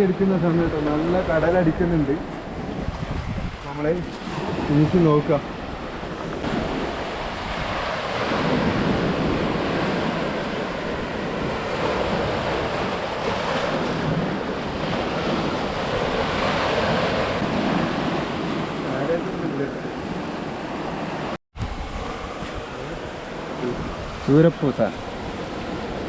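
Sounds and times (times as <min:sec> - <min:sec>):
surf breaking on shore: 0:00.0 - 0:26.0
wind buffeting microphone: 0:00.0 - 0:26.0.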